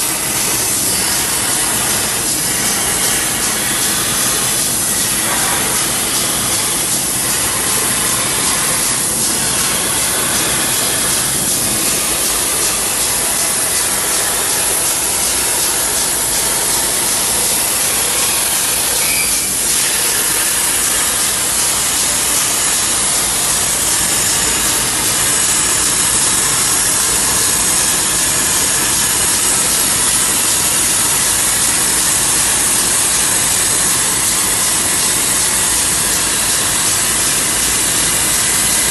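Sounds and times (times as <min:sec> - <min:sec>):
plasma torch cutting metal: 0:00.0 - 0:38.9.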